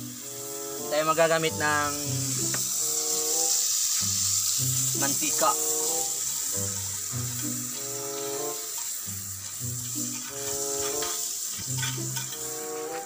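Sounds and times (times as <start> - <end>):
background music: 0.0 - 13.0
margarine sizzling in a pan: 0.0 - 13.0.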